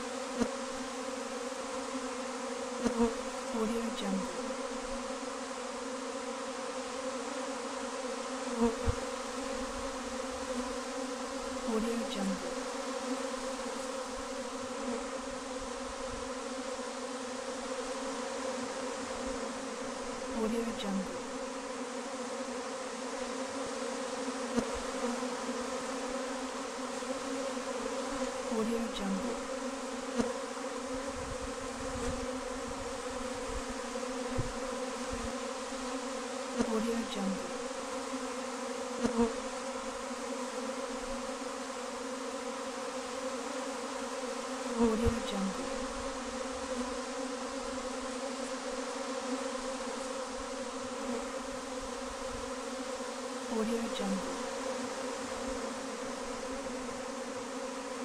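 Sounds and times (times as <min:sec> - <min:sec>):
honeybees humming drone: 0:00.0 - 0:58.0
single bee buzzing close by: 0:00.0 - 0:58.0.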